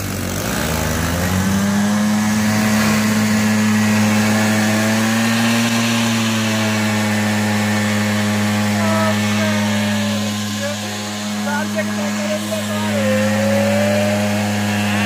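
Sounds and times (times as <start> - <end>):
scooter engine at full throttle: 0.0 - 15.0
wheel spinning in dirt: 0.0 - 15.0.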